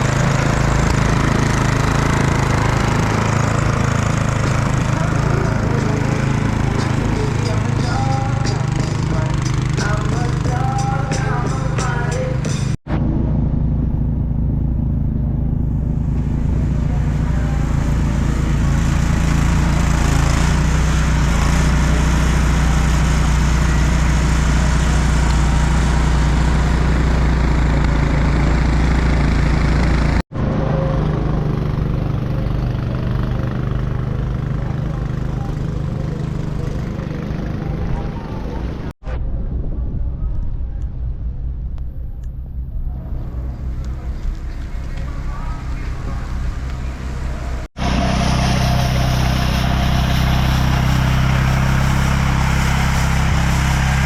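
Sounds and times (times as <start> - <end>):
city street traffic hum: 0.0 - 54.0.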